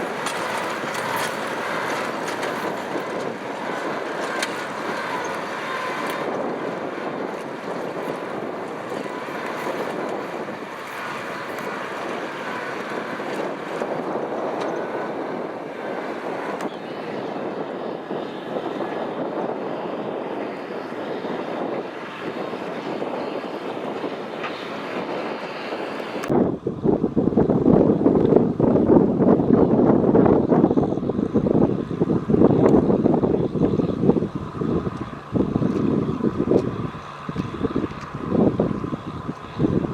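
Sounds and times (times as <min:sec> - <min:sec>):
tractor diesel engine running: 0:00.0 - 0:28.9, 0:29.7 - 0:39.9.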